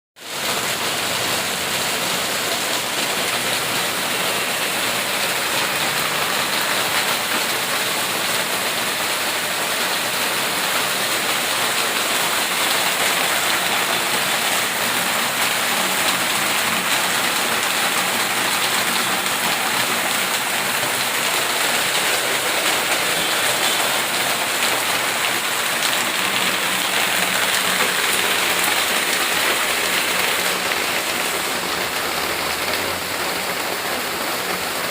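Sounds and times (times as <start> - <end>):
heavy rain splashing: 0.2 - 34.9.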